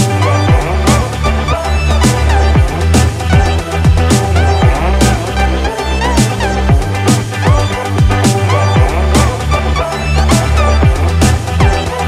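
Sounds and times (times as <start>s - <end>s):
electronic music with beat: 0.0s - 12.0s
sliding deep bass notes: 0.0s - 12.0s.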